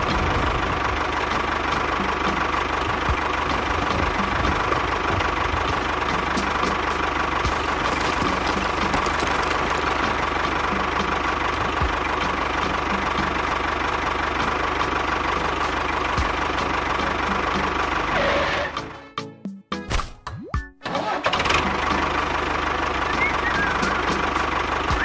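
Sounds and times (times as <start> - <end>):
small engine running with ticking whine: 0.0 - 19.0, 21.2 - 25.0.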